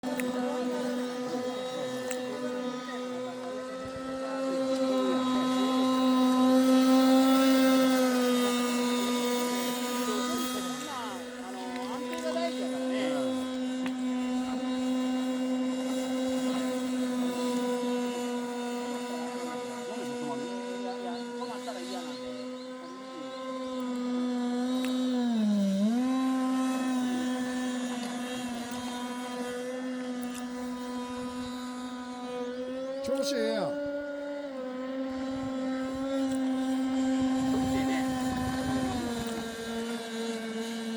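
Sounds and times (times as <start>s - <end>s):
model speedboat engine buzzing: 0.0s - 40.9s.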